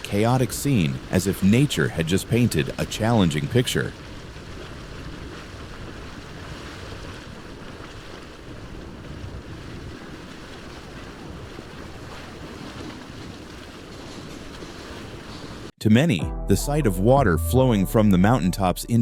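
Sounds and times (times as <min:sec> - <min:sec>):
rushing floodwater: 0:00.0 - 0:15.7
wind buffeting microphone: 0:00.0 - 0:15.7.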